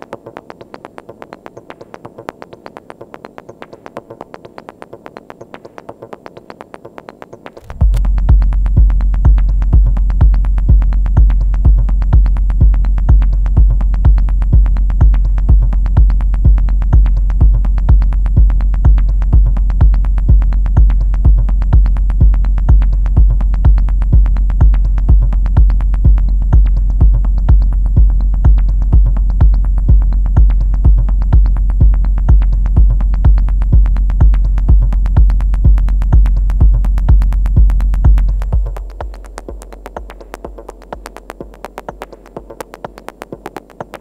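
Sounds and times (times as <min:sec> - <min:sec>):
fast ticking drum machine hits: 0:00.0 - 0:44.0
heavy kick drum: 0:07.6 - 0:44.0.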